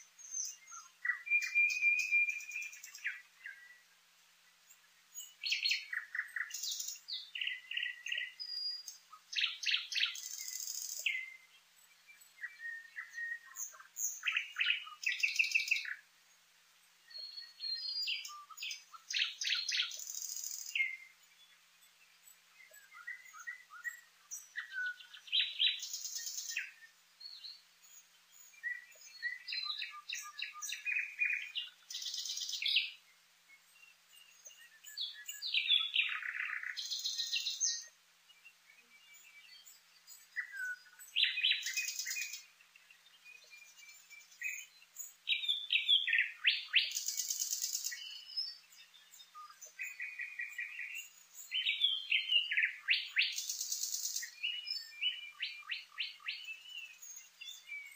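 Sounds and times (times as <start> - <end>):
nightingale singing: 0.0 - 57.9.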